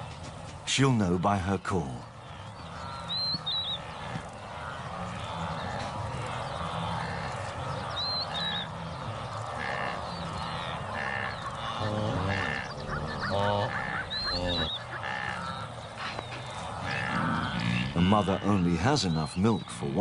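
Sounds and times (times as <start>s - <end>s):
bird chirps: 1.2s - 20.0s
wildebeest honking grunts: 2.3s - 18.8s.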